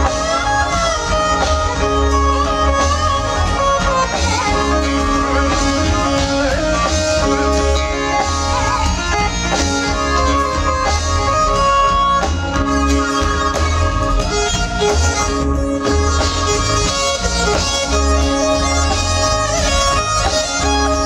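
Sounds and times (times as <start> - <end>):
drums: 0.0 - 21.0
electric bass line: 0.0 - 21.0
wavering lead melody: 0.0 - 21.0.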